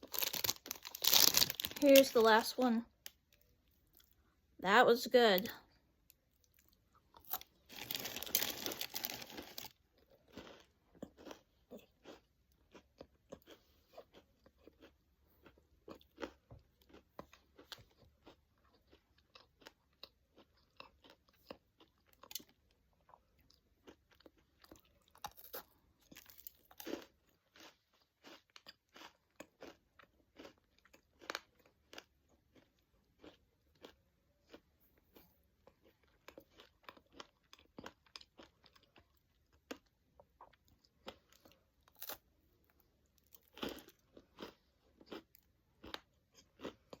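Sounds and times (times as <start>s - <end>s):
chewing and crunching: 0.0s - 4.3s, 5.4s - 47.0s.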